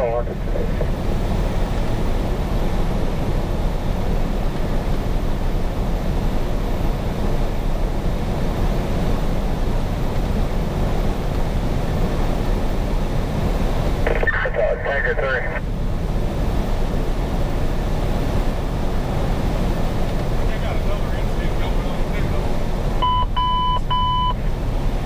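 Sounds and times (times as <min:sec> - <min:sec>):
diesel engine running: 0:00.0 - 0:25.0
road and wind noise: 0:00.0 - 0:25.0.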